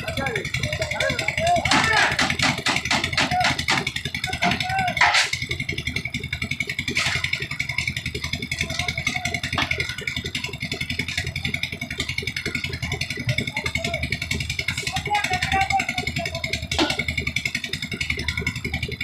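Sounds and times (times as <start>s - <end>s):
concrete mixer engine chugging: 0.0s - 19.0s.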